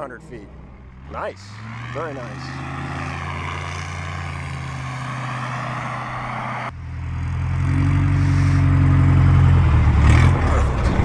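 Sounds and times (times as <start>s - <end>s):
propeller plane engine running: 0.0s - 10.0s.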